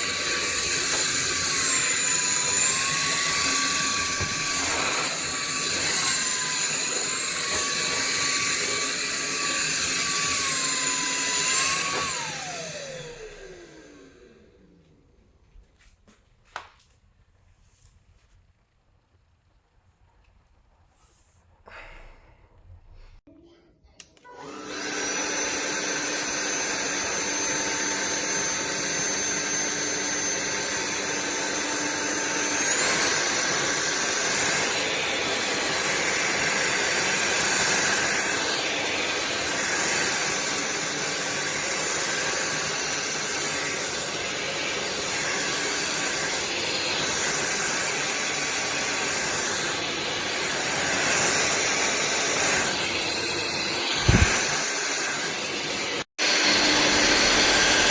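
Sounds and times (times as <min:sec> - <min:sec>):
vacuum cleaner motor whine: 0:00.0 - 0:15.9, 0:24.2 - 0:57.9.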